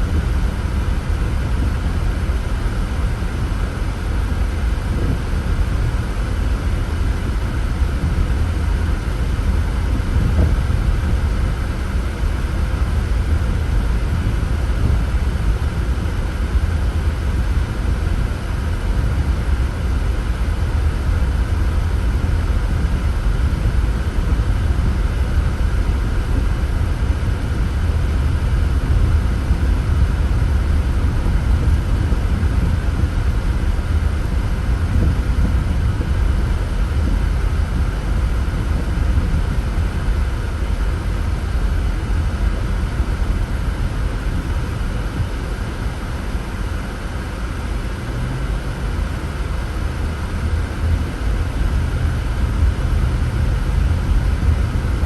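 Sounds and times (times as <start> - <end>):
car driving on road: 0.0 - 55.0.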